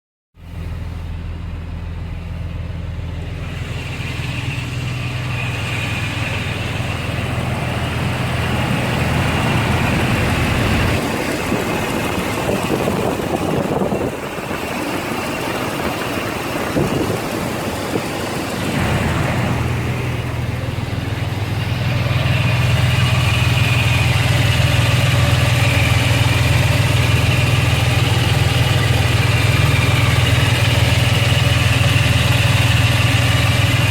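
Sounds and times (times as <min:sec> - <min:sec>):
engine idling with whirr: 0:00.4 - 0:33.9.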